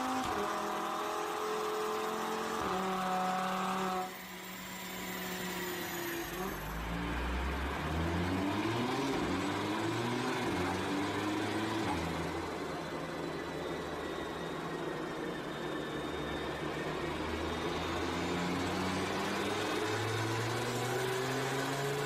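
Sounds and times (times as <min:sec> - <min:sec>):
car engine revving on dyno: 0:00.0 - 0:22.0.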